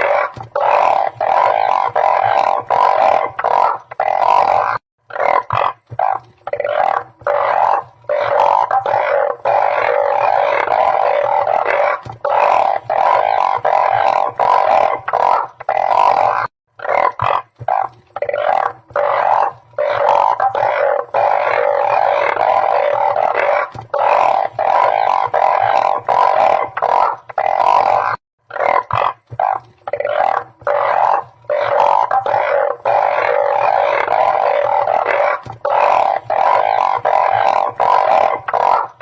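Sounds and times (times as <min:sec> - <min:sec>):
frog chorus droning: 0:00.0 - 0:39.0.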